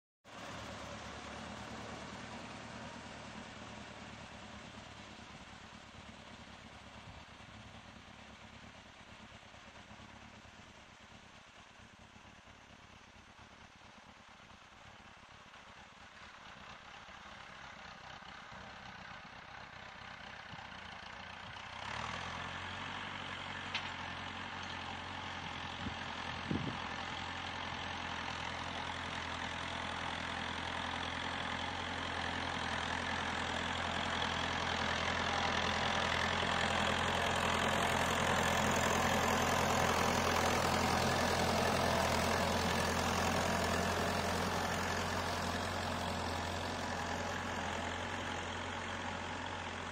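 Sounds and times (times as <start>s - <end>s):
tractor engine running: 0.3s - 49.9s.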